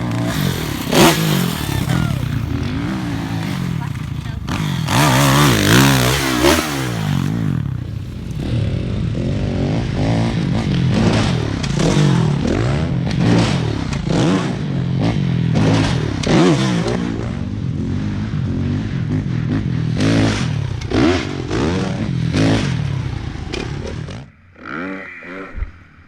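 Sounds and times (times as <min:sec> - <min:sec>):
dirt bike engines revving: 0:00.0 - 0:25.5.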